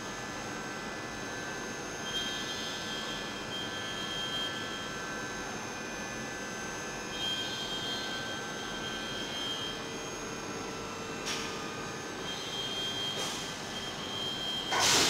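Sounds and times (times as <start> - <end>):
high machine whine: 0.0 - 15.0.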